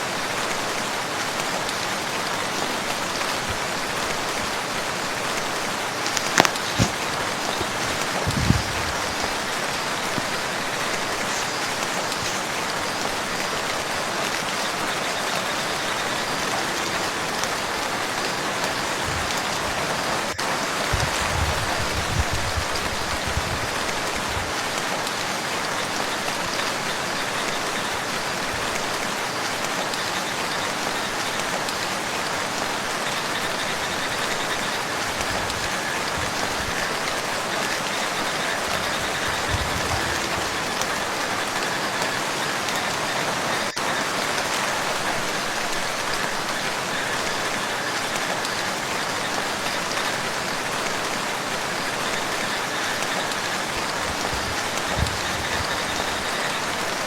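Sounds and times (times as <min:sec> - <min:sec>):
rain falling on a lake: 0:00.0 - 0:57.0.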